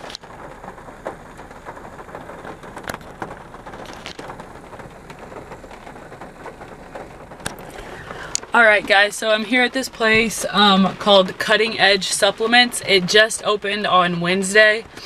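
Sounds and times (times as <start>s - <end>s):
rain hissing on car: 0.0s - 15.0s
raindrops ticking on glass: 0.0s - 15.0s.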